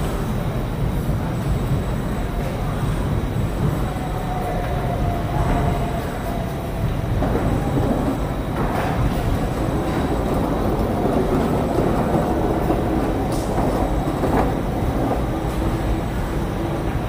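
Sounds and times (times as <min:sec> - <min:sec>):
ambient rumble and hiss: 0:00.0 - 0:17.0.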